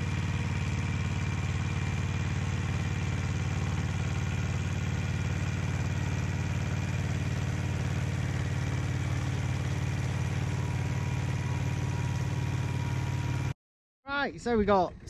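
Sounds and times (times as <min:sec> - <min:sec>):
tractor diesel engine running: 0:00.0 - 0:13.6.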